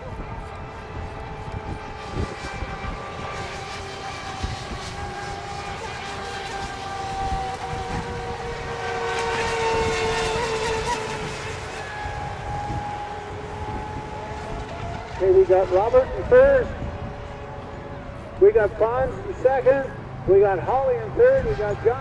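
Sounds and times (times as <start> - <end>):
rc boat engines whining: 0.0 - 22.0.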